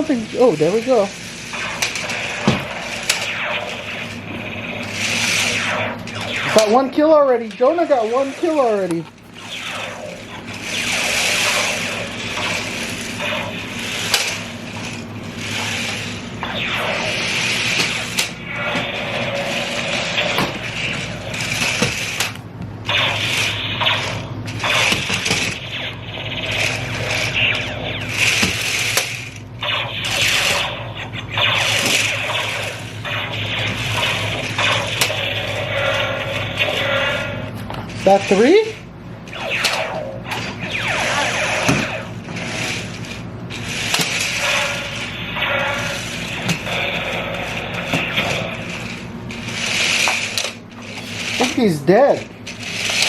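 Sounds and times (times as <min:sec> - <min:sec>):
electronic zap effects: 0:00.0 - 0:53.0
toy tank motors whirring: 0:00.0 - 0:53.0.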